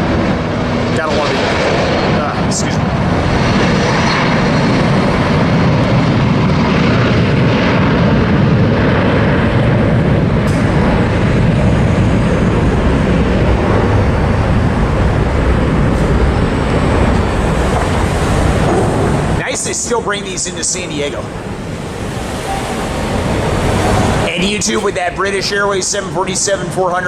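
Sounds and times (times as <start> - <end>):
jet taking off: 0.0 - 27.0.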